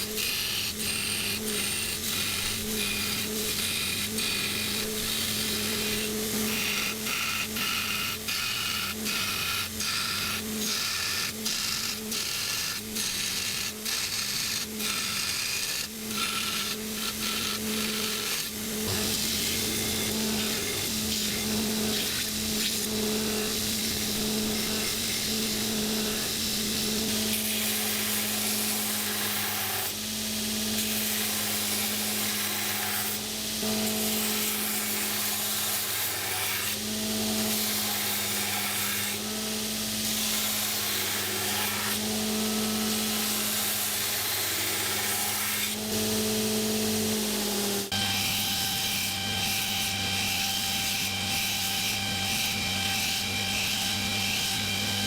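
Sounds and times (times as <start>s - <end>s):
power tool running: 0.0s - 55.0s.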